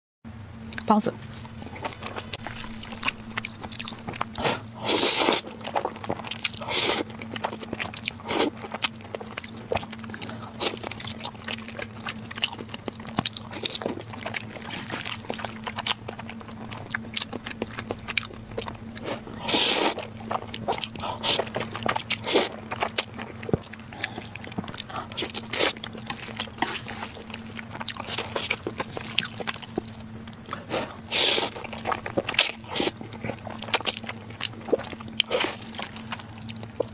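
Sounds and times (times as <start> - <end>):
steady low hum: 0.3 - 36.9
slurping and chewing noodles: 1.4 - 36.9.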